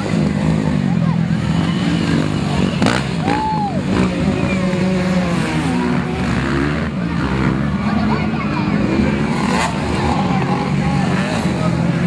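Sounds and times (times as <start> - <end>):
crowd voices: 0.0 - 12.0
motorcycle engines running: 0.0 - 12.0.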